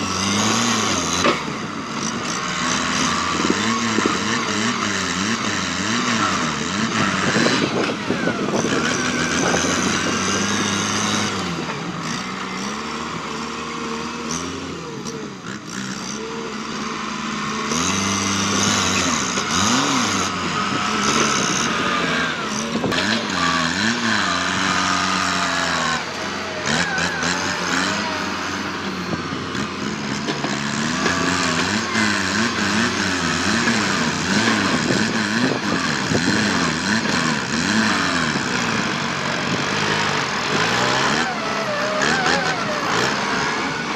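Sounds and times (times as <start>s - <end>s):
tractor diesel engine revving: 0.0s - 43.9s.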